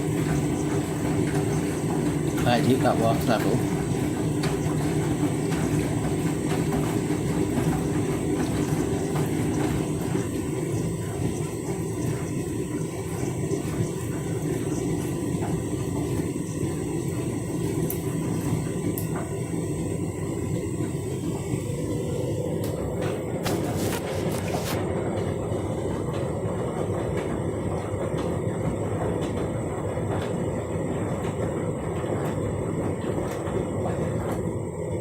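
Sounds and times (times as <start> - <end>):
washing machine running: 0.0 - 35.0.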